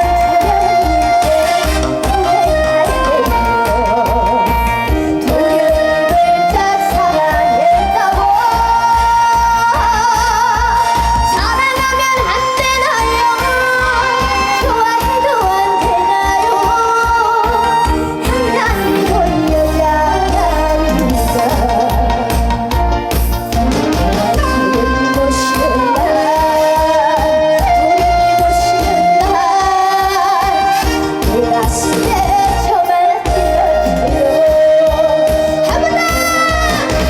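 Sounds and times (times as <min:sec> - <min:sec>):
girl singing with vibrato: 0:00.0 - 0:22.4, 0:24.2 - 0:37.0
backing track with steady beat: 0:00.0 - 0:37.0.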